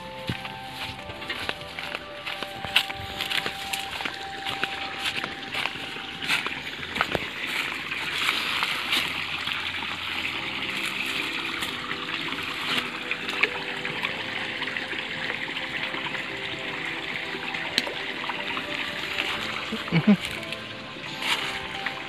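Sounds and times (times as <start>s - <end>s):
water trickling over stones: 0.0s - 22.0s.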